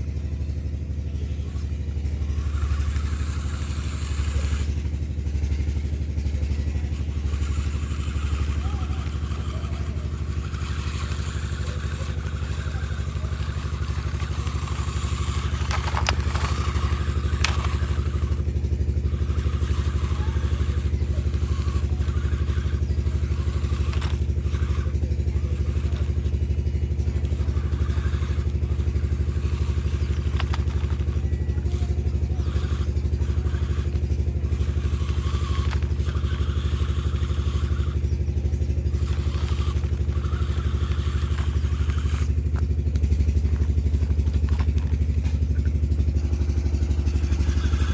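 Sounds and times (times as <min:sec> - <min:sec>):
clatter: 0:00.0 - 0:47.9
engine humming: 0:00.0 - 0:47.9.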